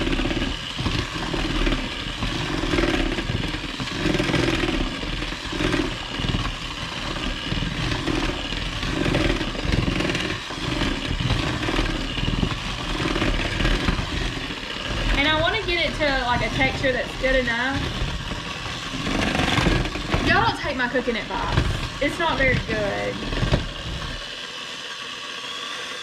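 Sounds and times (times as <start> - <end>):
electric mixer motor running: 0.0 - 26.0.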